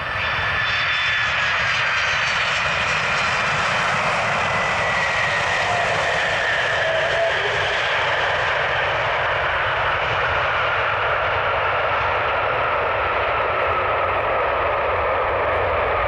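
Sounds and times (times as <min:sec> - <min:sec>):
jet engines running loudly: 0:00.0 - 0:16.0.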